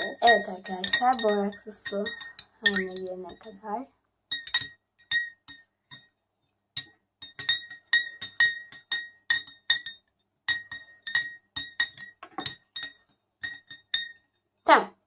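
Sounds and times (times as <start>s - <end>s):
spoon clinking against glass bowl: 0.0s - 3.6s, 4.3s - 6.2s, 6.8s - 14.4s.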